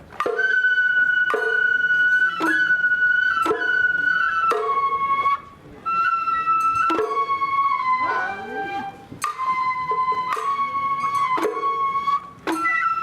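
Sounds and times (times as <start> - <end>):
sharp percussion strikes: 0.0 - 5.2, 6.4 - 8.4, 9.2 - 13.0
bamboo flute long notes: 0.0 - 13.0.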